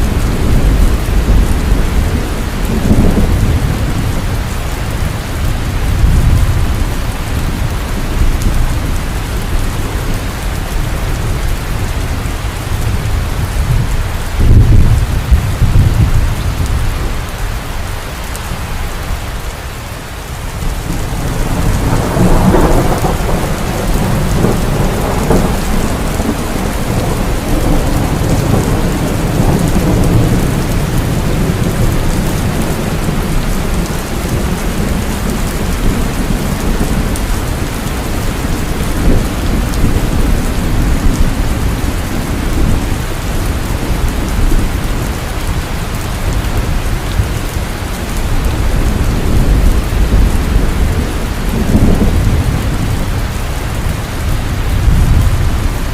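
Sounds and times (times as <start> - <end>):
heavy rain: 0.0 - 55.9
low thunder rumbling: 0.0 - 55.9.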